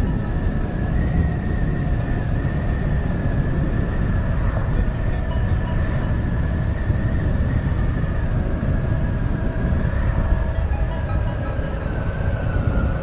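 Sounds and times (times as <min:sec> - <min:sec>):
steady whine: 0:00.0 - 0:13.0
tyres humming on ridged road: 0:00.0 - 0:13.0
wind noise on microphone: 0:00.0 - 0:13.0.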